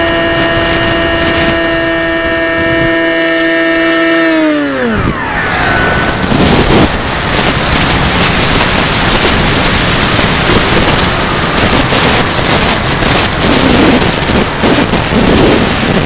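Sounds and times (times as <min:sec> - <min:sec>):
model aircraft motor whine: 0:00.0 - 0:16.0
wind rushing over microphone: 0:00.0 - 0:16.0.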